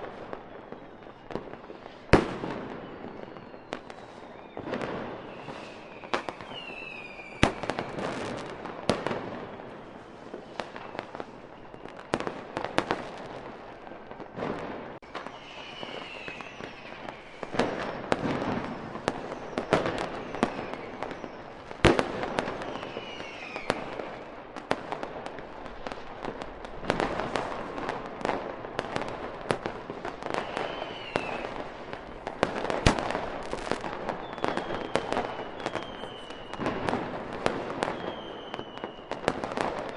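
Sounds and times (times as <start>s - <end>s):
firework whistles: 0.0s - 25.1s, 26.8s - 39.9s
fireworks bangs and crackling: 0.0s - 39.9s.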